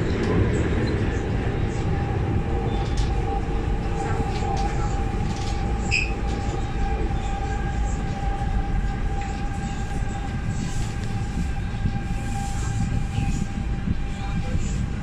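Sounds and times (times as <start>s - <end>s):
train rumble in tunnel: 0.0s - 15.0s.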